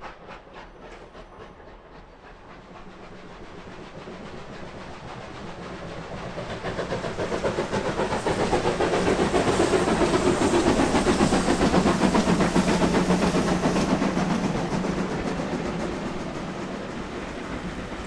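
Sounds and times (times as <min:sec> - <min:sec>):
steam hiss: 0:00.0 - 0:18.0
steam locomotive exhaust beats: 0:00.0 - 0:18.0.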